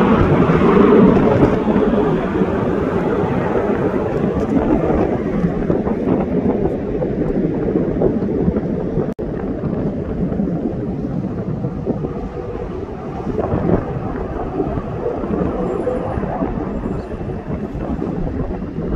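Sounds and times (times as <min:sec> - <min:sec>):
jet engine noise: 0:00.0 - 0:18.9.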